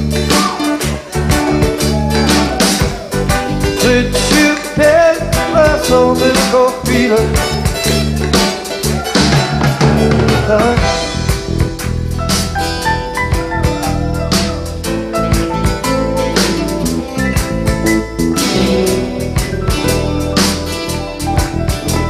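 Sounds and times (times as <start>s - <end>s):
acoustic guitars: 0.0s - 22.0s
steady drum beat: 0.0s - 22.0s.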